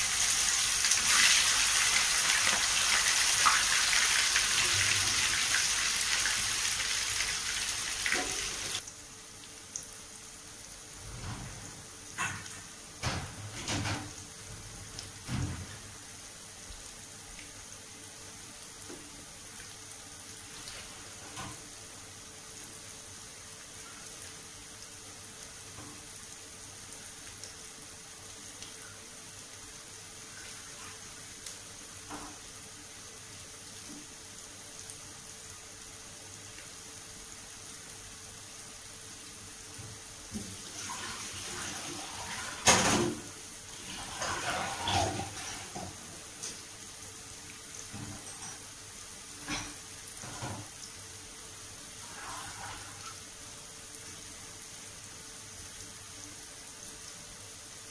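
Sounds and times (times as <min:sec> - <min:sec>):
tofu deep-frying in oil: 0:00.0 - 0:57.9.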